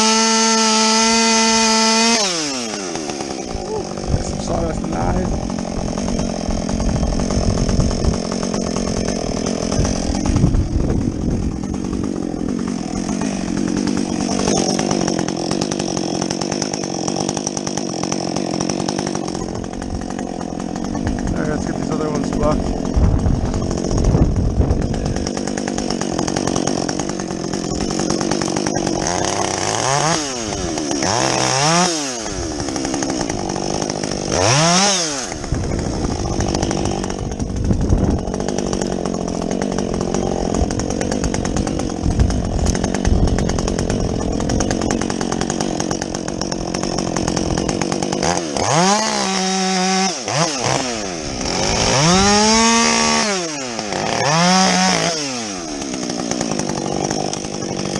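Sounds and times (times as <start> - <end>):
chainsaw cutting logs: 0.0 - 57.9.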